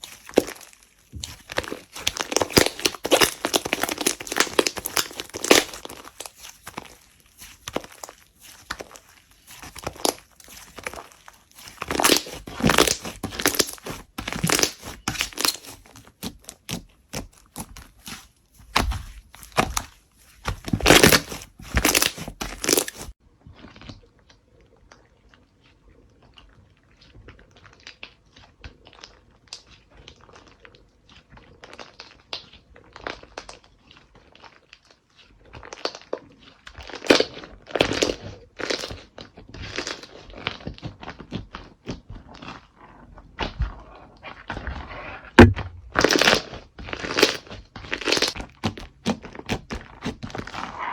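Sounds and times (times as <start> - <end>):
slime crackling and popping: 0.0 - 23.2, 27.5 - 50.9.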